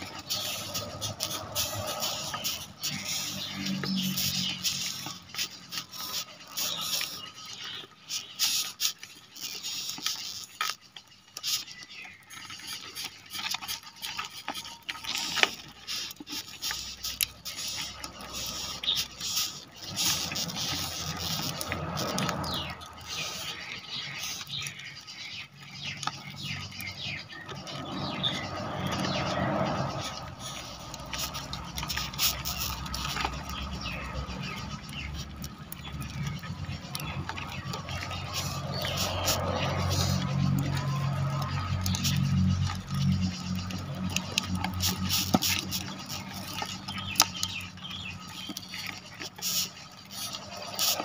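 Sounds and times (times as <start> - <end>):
beetles scratchy clicks: 0.0 - 51.0
small squeaks: 0.0 - 51.0.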